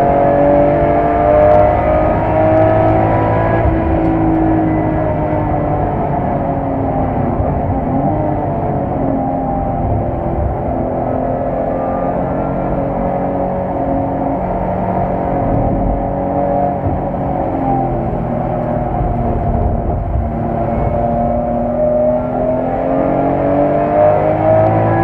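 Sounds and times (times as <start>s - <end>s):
car engine revving at speed: 0.0s - 25.0s.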